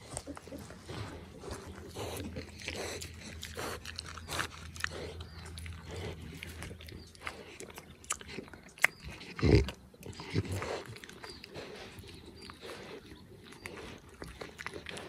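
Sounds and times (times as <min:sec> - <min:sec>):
animal chewing and crunching: 0:00.0 - 0:15.0
low steady hum: 0:00.0 - 0:15.0.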